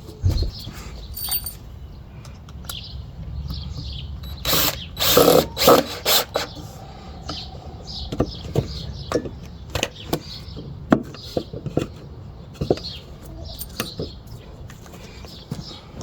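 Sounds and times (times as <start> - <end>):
birds chirping: 0.1 - 5.7, 6.3 - 16.0.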